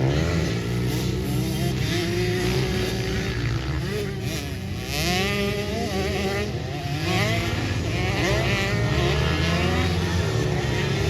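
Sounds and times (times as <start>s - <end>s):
pit bike engines racing: 0.0s - 11.0s.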